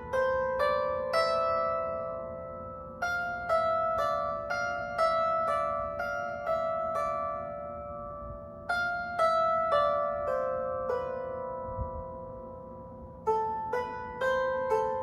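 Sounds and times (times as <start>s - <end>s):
lyre harp plucked melody: 0.0s - 15.0s.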